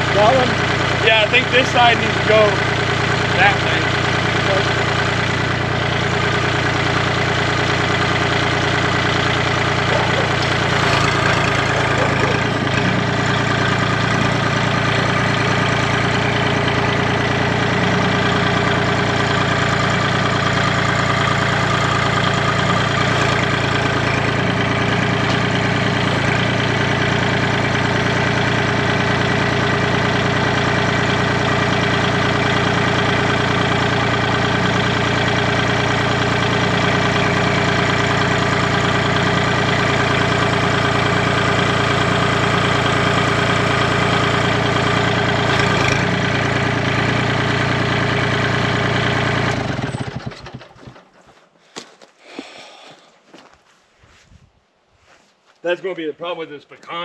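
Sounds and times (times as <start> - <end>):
engine idling: 0.0 - 51.8.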